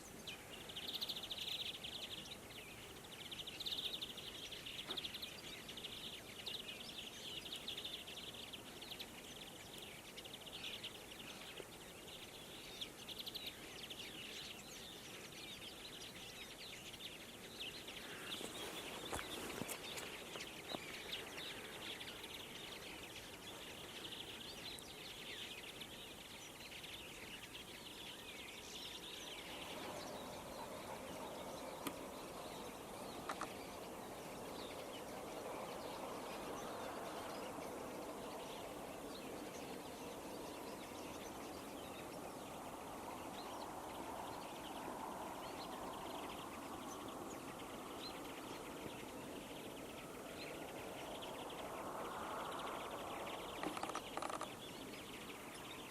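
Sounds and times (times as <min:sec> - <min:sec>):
flock of finches twittering: 0:00.1 - 0:55.9.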